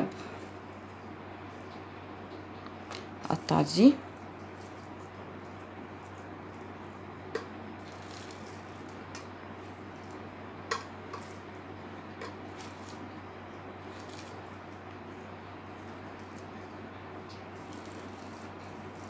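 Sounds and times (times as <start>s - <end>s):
hands squishing minced meat: 0.0s - 19.0s.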